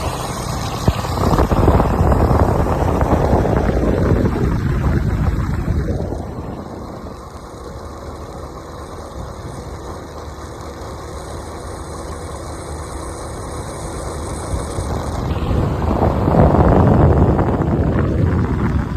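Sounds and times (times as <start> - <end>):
vehicle engine rumbling: 0.0 - 18.9.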